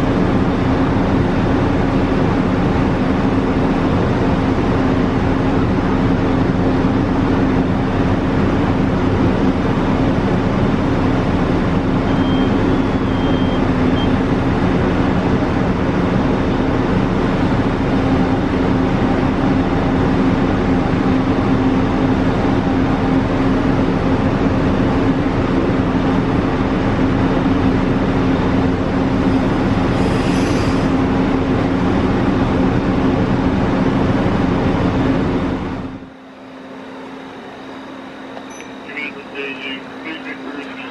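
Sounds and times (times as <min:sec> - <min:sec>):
vehicle engine humming: 0:00.1 - 0:40.9.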